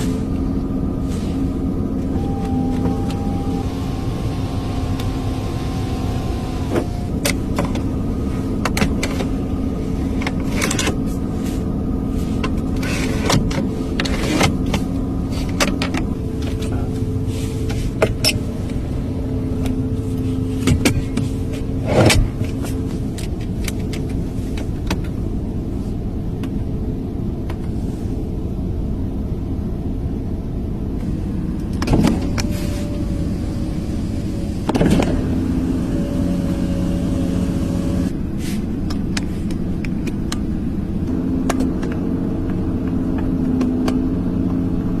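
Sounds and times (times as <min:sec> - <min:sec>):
hum: 0:00.0 - 0:10.7, 0:11.3 - 0:45.0
car engine running: 0:00.0 - 0:45.0
road rumble: 0:00.0 - 0:45.0.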